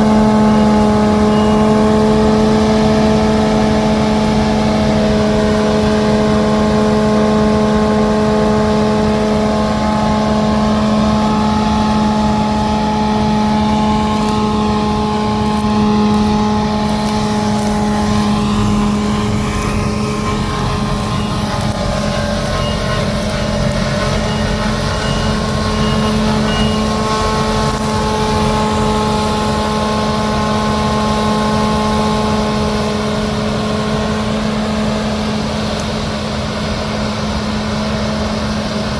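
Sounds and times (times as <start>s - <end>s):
diesel engine drone: 0.0s - 38.9s
mechanical noise: 0.0s - 38.9s.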